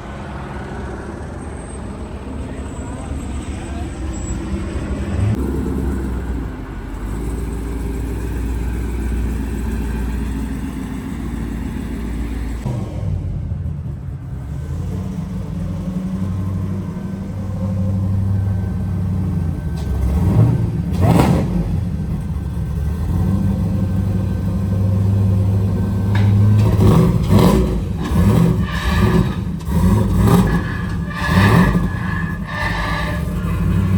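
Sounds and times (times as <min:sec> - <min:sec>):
engine deep low drone: 0:00.0 - 0:33.9.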